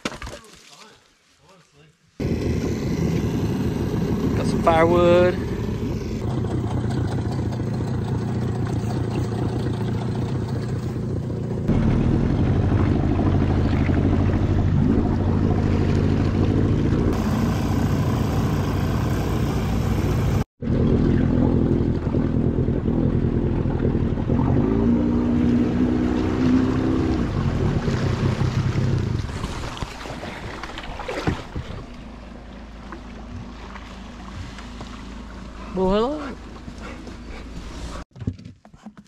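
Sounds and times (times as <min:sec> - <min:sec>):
outboard motor running: 0:02.2 - 0:38.1.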